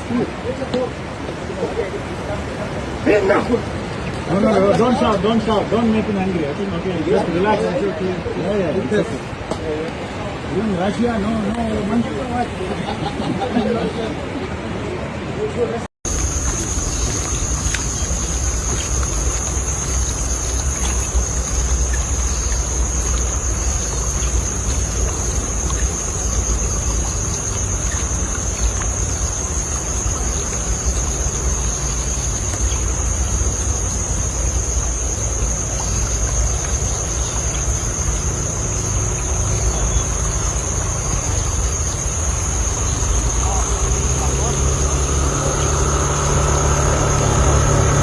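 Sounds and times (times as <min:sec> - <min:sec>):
continuous high whine: 0:00.0 - 0:48.0.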